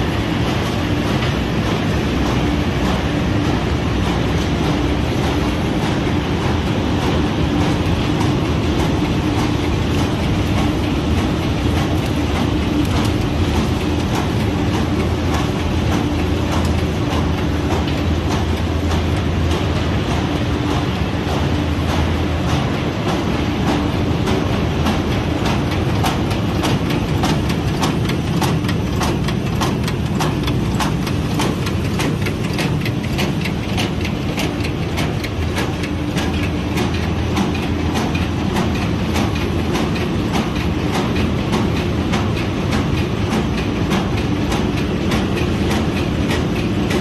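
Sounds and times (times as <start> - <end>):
machinery drone and hum: 0.0 - 47.0.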